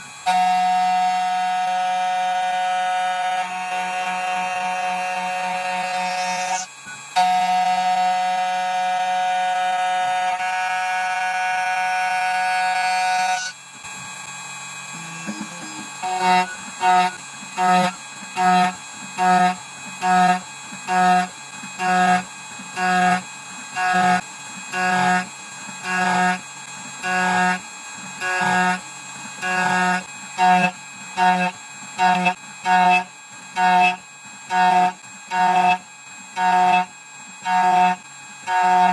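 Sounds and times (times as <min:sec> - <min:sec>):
key-cutting machine motor whine: 0:00.0 - 0:38.9.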